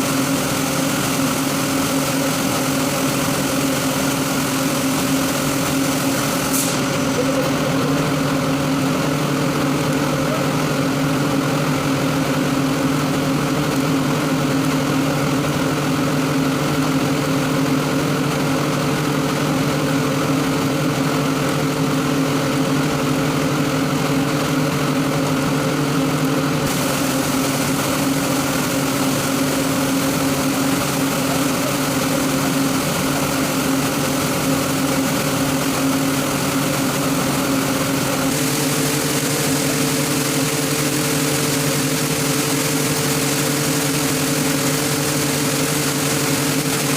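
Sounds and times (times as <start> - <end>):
air compressor humming and hissing: 0.0 - 46.9.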